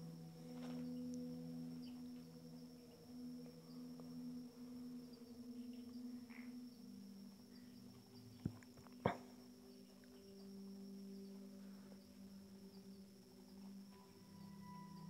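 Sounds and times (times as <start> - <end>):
crickets chirring: 0.0 - 15.0
low steady hum: 0.0 - 15.0.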